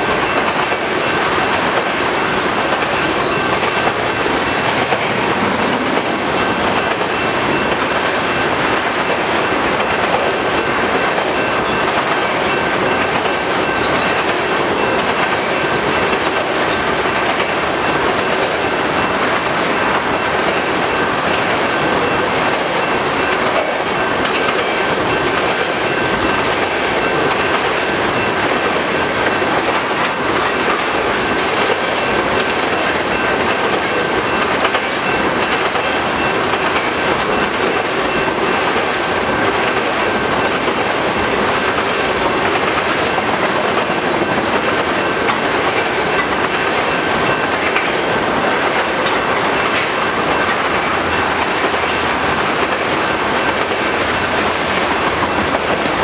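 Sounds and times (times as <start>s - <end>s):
train wheels clacking on rail: 0.0s - 56.0s.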